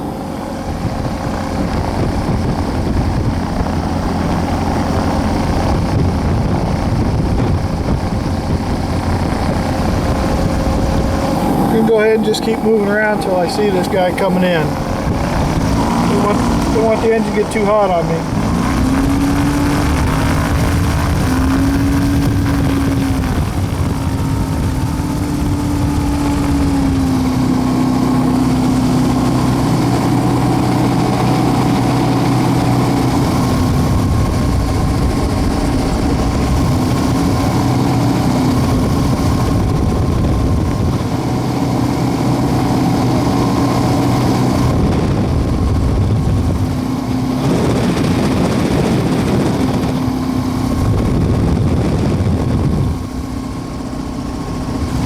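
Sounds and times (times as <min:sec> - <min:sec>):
propeller engine droning: 0:00.0 - 0:55.0.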